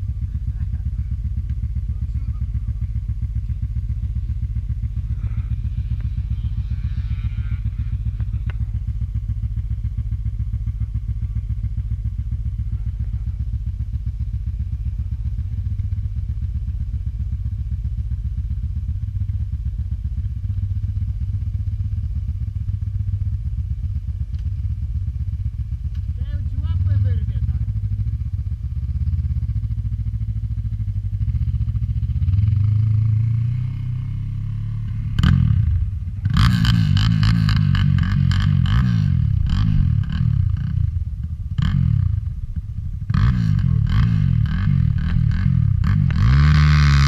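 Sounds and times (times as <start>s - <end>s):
quad bike engines idling: 0.0s - 47.0s.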